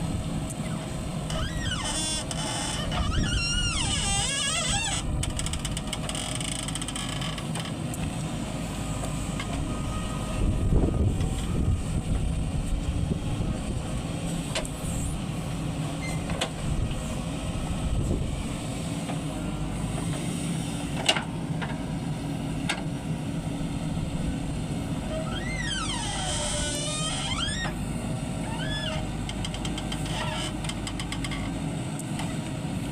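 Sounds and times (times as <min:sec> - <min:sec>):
backhoe diesel engine running: 0:00.0 - 0:32.9.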